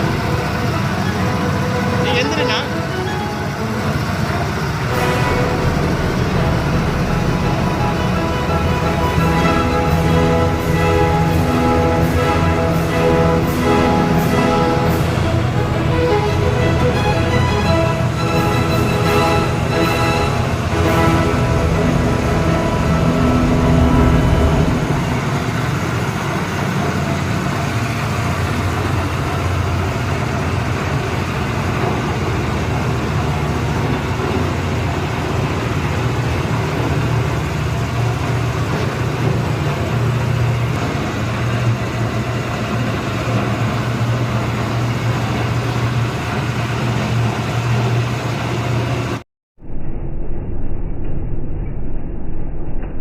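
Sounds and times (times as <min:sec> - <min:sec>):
small petrol engine humming: 0:00.0 - 0:49.2.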